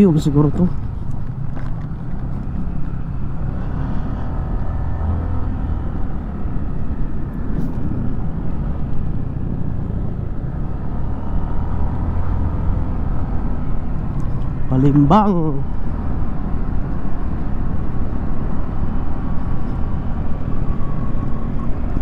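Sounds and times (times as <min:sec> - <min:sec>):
scooter engine drone: 0:00.0 - 0:22.0
wind and road noise: 0:00.0 - 0:22.0.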